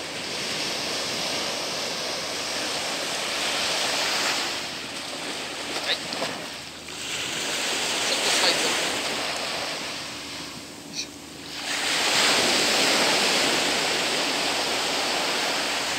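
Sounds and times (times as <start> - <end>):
surf washing up beach: 0.0 - 15.9.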